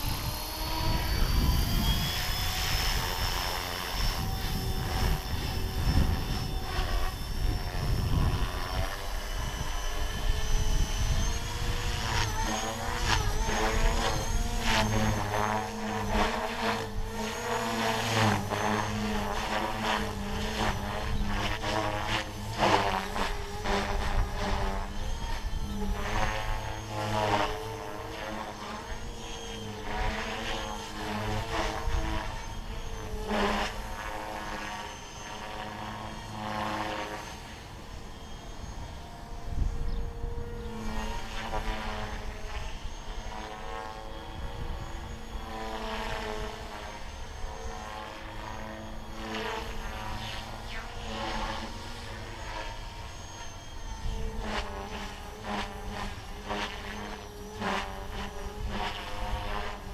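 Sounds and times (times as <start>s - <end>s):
rc helicopter motor and rotor whine: 0.0s - 59.9s.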